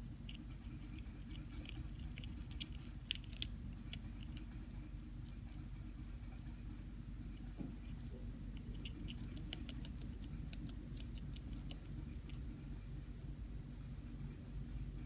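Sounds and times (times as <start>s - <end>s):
hamster chewing leaf: 0.0s - 15.0s.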